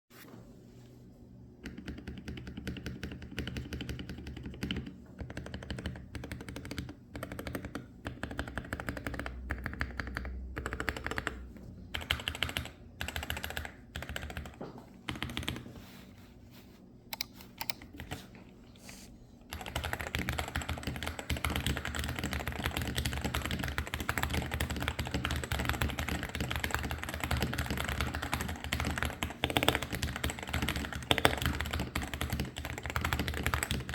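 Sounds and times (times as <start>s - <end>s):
keyboard typing: 1.6s - 15.8s, 17.1s - 18.4s, 19.5s - 33.9s.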